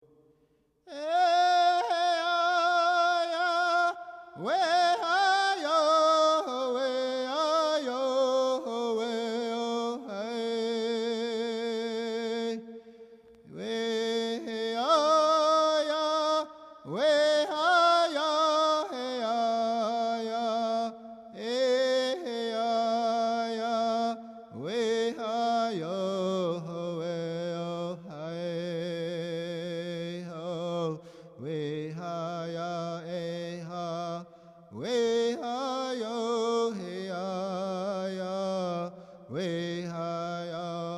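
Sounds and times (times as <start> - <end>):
solo voice chanting: 0.8 - 40.9.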